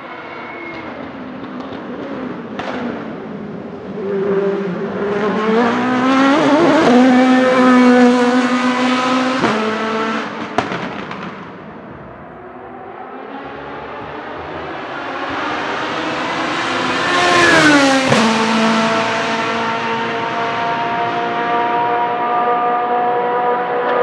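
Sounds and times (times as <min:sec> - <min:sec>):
race car accelerating: 0:00.0 - 0:24.0.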